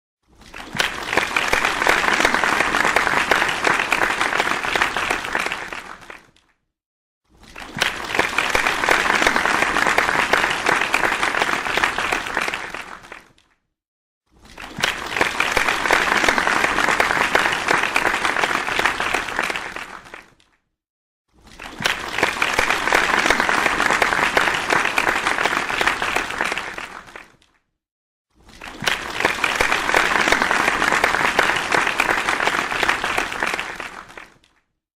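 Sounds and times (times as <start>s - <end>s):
audience applause: 0.4s - 6.4s, 7.4s - 13.4s, 14.4s - 20.4s, 21.5s - 27.4s, 28.5s - 34.4s.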